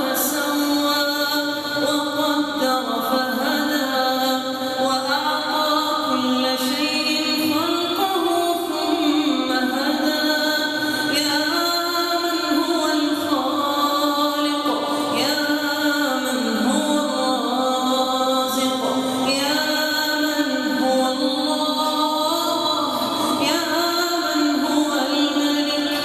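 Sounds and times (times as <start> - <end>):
person chanting religious recitation: 0.0 - 26.0.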